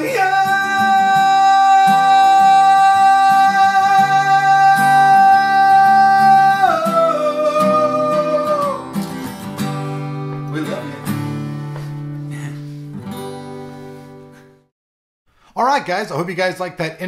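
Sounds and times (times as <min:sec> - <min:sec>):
strummed acoustic guitar: 0:00.0 - 0:14.6.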